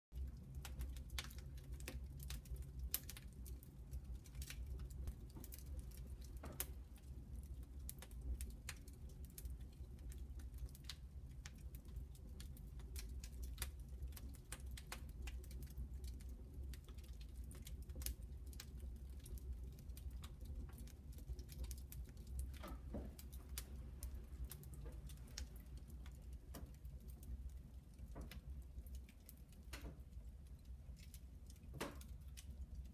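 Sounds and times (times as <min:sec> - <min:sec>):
wood fire crackling: 0:00.2 - 0:32.9.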